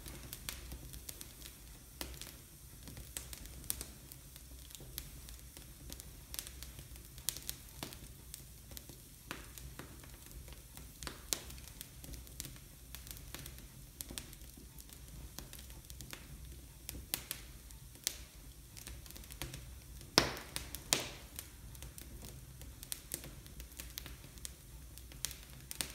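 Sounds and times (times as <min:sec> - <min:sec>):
loud fire pops: 0:00.0 - 0:25.9
wood fire crackling: 0:00.0 - 0:25.9.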